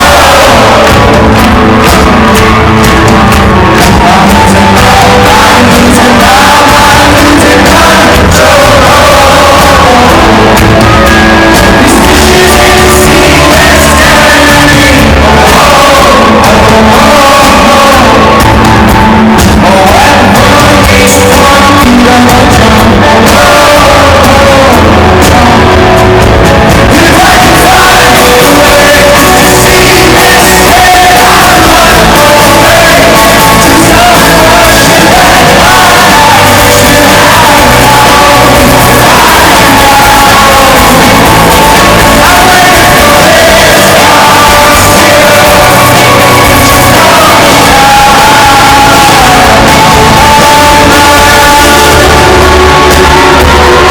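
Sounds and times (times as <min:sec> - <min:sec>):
male lead singer: 0:00.0 - 0:53.9
rock band playing: 0:00.0 - 0:53.9.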